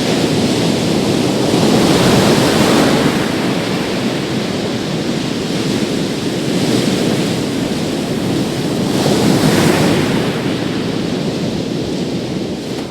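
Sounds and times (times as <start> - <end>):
sea waves breaking on beach: 0.0 - 12.9
wind buffeting microphone: 0.0 - 12.9.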